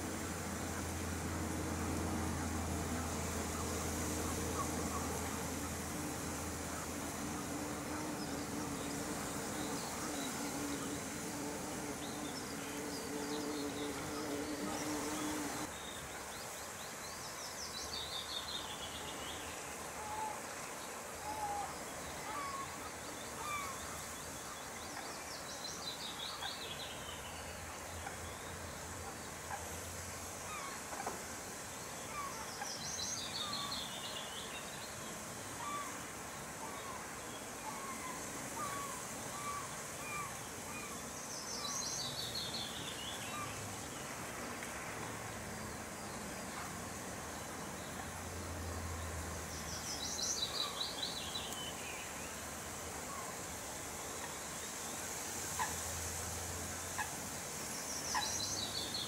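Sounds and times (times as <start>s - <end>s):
outdoor ambience hiss: 0.0s - 59.0s
songbird singing: 0.0s - 59.0s.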